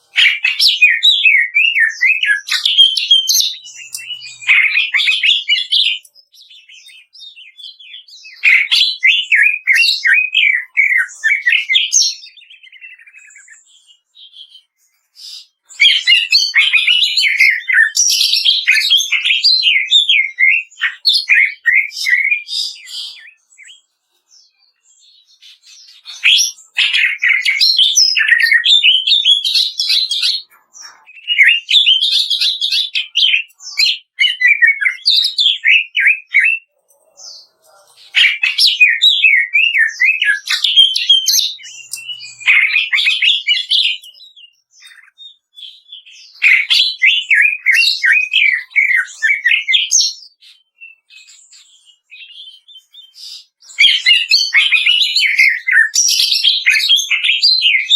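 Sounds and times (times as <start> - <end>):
bird singing chattering song: 0.0 - 57.9.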